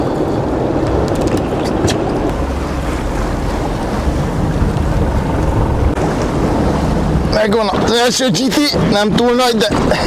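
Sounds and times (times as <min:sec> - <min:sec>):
sea: 0:00.0 - 0:10.0
wind buffeting microphone: 0:00.0 - 0:10.0
boat rumble: 0:01.7 - 0:10.0.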